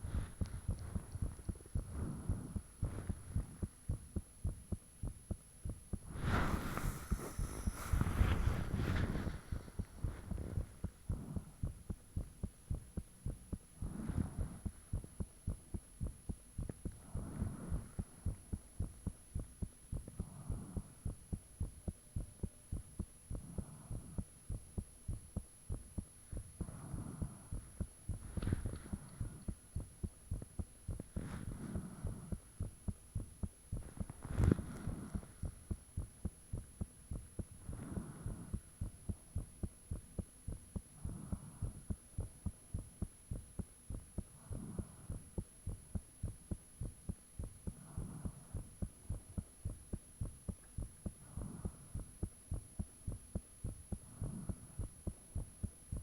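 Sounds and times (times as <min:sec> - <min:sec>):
heartbeat thumps: 0:00.0 - 0:56.0.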